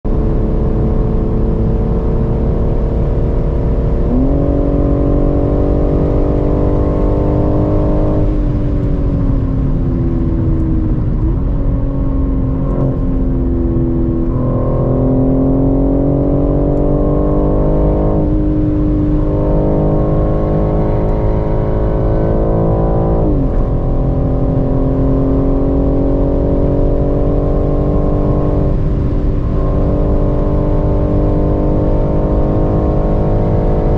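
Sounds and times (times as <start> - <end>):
car engine accelerating: 0.0 - 33.9
road and wind rumble: 0.0 - 33.9.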